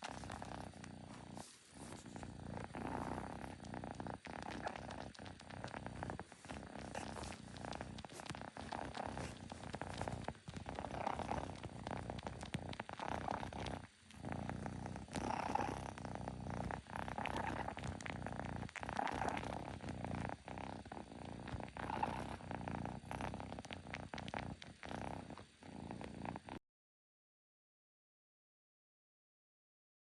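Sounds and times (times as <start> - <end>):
kitten purring: 0.0 - 26.6.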